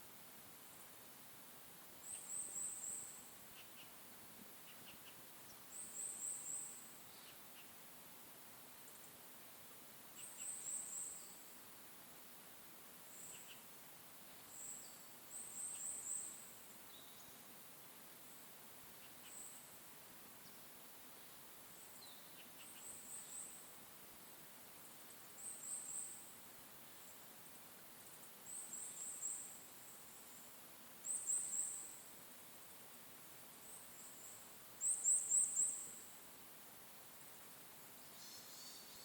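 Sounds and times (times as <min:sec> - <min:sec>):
quiet hiss: 0:00.0 - 0:39.0.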